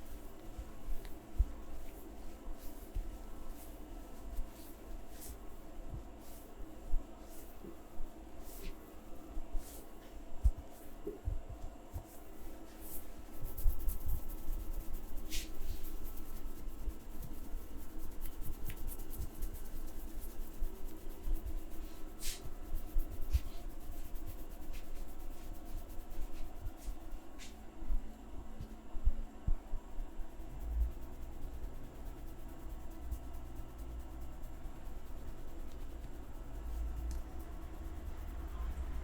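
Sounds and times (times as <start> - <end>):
hands rubbing hair and skin: 0.0 - 27.8, 29.8 - 39.0.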